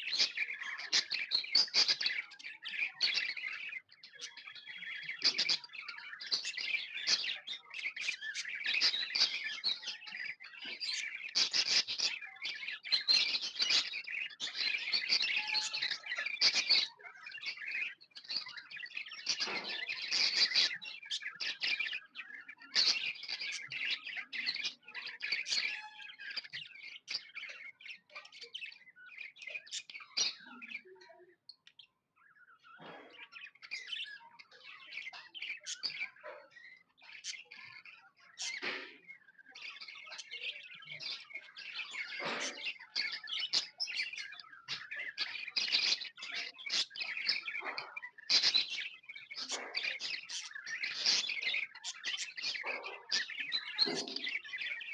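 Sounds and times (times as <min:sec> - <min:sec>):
budgerigars chirping: 0:00.0 - 0:30.8, 0:32.5 - 0:54.9.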